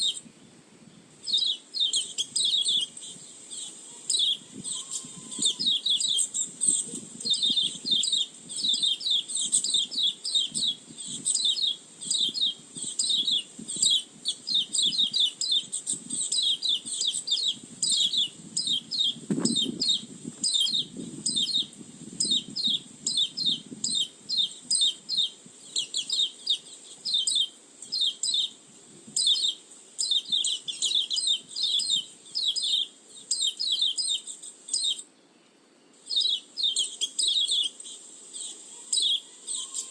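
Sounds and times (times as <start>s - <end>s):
bird chirping and twittering: 0.0s - 0.3s, 1.2s - 35.1s, 36.0s - 39.9s.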